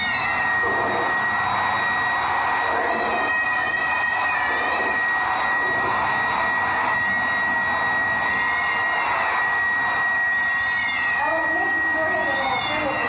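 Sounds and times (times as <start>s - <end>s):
hair dryer blowing with high whine: 0.0s - 13.0s.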